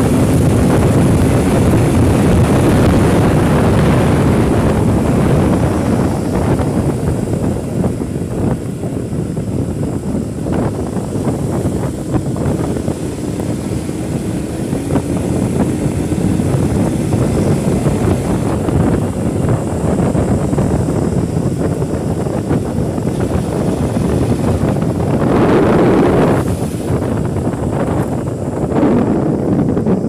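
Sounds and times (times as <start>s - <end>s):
motorcycle engine at speed: 0.0s - 30.0s
wind rushing over microphone: 0.0s - 30.0s.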